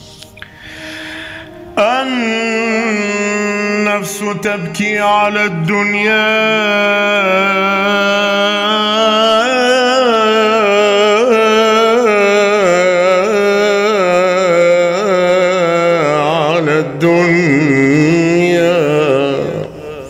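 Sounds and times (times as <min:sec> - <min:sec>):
low drone: 0:00.0 - 0:20.0
man singing melisma: 0:01.0 - 0:20.0.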